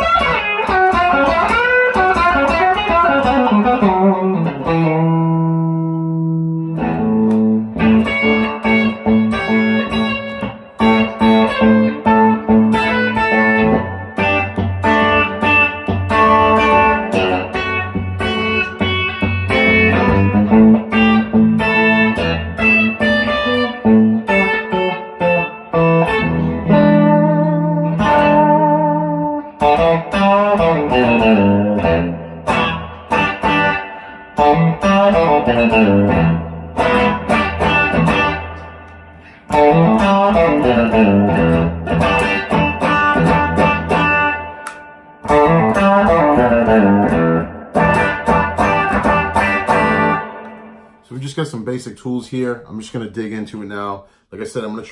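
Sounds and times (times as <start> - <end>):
clean electric guitar playing: 0.0 - 51.9.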